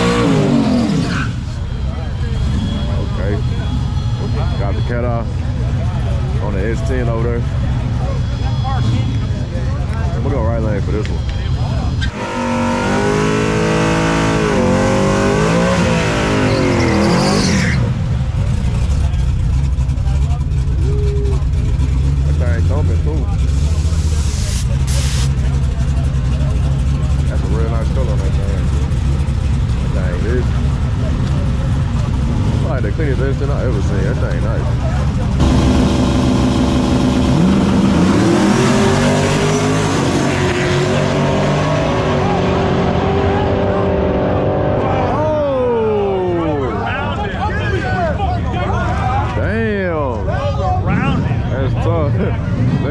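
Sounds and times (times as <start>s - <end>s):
truck engine at full throttle: 0.0s - 52.9s.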